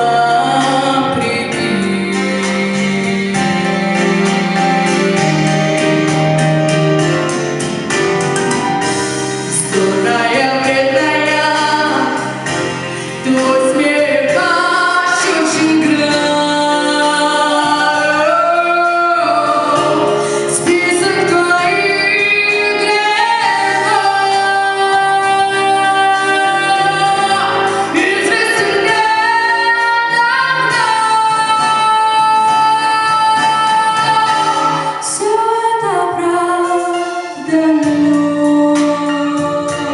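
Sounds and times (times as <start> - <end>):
woman singing: 0.0 - 6.2, 9.5 - 39.9
instrumental backing: 0.0 - 39.9.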